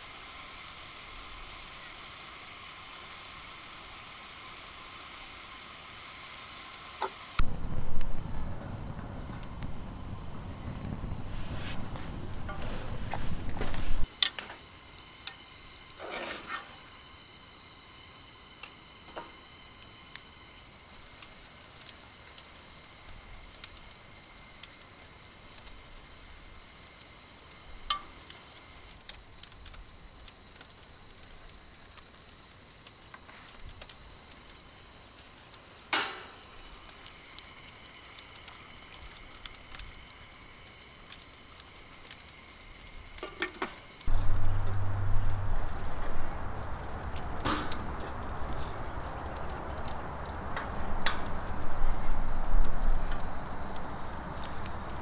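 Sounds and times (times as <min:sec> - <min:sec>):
curry simmering sizzle: 0:00.0 - 0:55.0.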